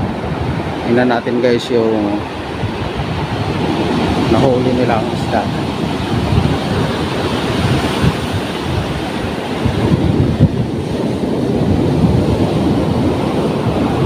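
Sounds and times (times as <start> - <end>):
heavy surf breaking: 0.0 - 14.0
wind on microphone: 0.0 - 14.0.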